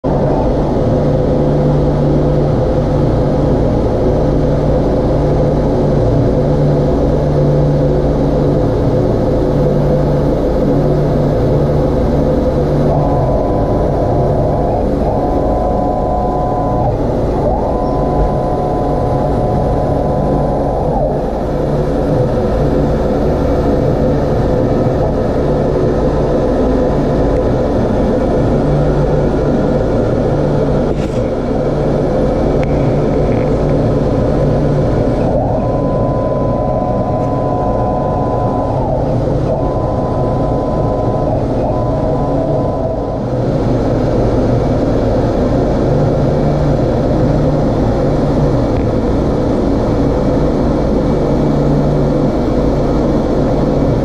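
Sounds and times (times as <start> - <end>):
high whining tones: 0.0 - 54.0
laser cutter machine hum: 0.0 - 54.0.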